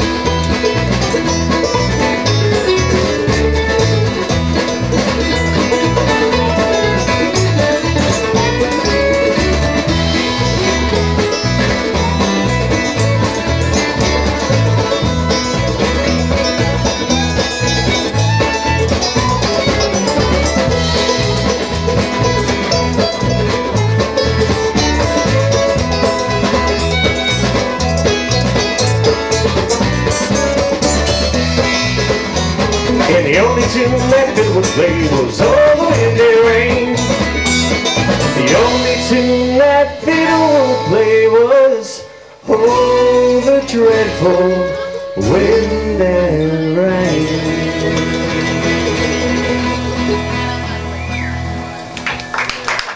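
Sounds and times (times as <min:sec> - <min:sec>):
acoustic guitar picking: 0:00.0 - 0:52.3
banjo picking: 0:00.0 - 0:52.9
fiddle: 0:00.0 - 0:52.9.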